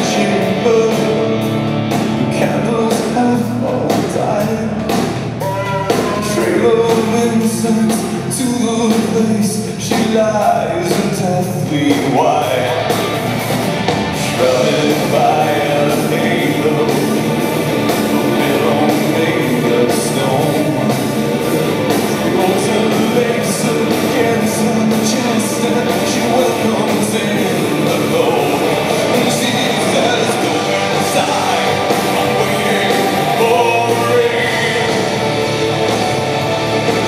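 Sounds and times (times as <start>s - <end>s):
man singing lead: 0.0s - 13.3s, 14.2s - 36.1s
bass guitar: 0.0s - 37.0s
drums: 0.0s - 37.0s
electric guitars: 0.0s - 37.0s.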